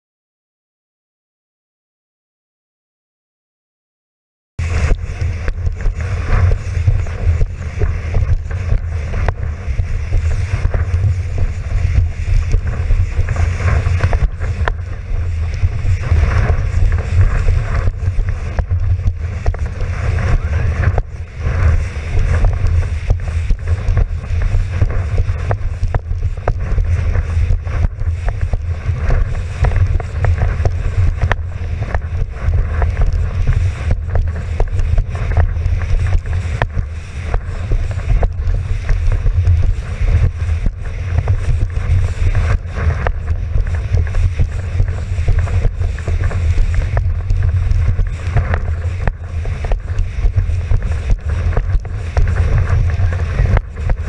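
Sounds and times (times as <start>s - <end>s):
wind buffeting microphone: 4.6s - 54.0s.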